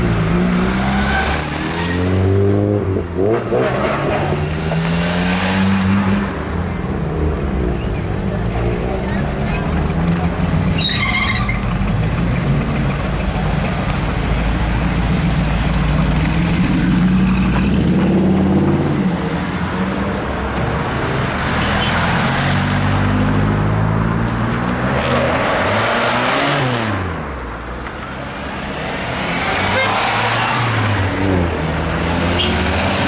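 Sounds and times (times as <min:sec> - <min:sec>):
vehicle engines driving by: 0:00.0 - 0:33.0.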